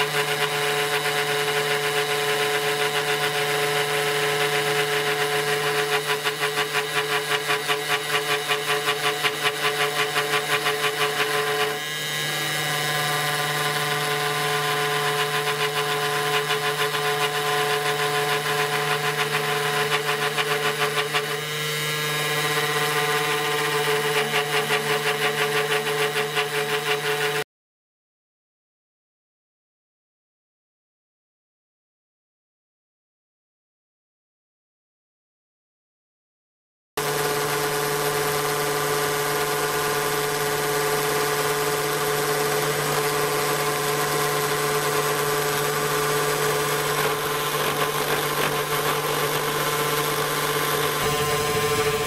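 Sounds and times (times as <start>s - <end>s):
spindle cutting aluminium: 0.0s - 27.4s, 37.0s - 52.0s.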